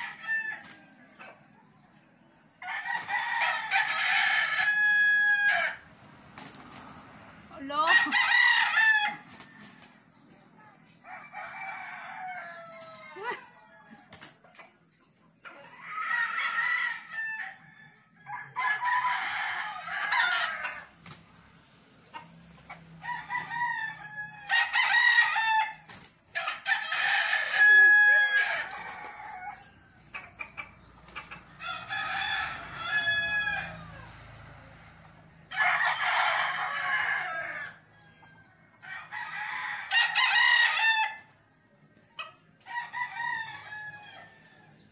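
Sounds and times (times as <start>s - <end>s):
roosters crowing: 0.0s - 44.9s.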